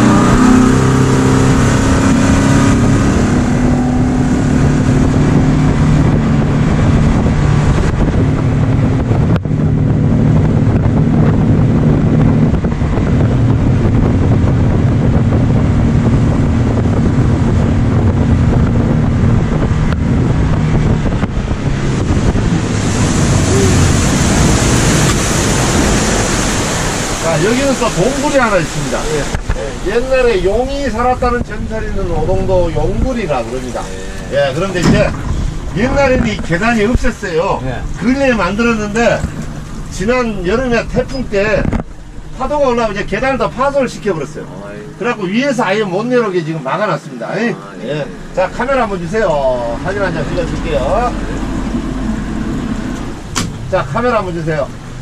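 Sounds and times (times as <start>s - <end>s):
motorboat engine running: 0.0s - 45.5s, 47.6s - 55.0s
wind buffeting microphone: 0.0s - 45.5s, 47.9s - 55.0s
water rushing: 0.0s - 55.0s.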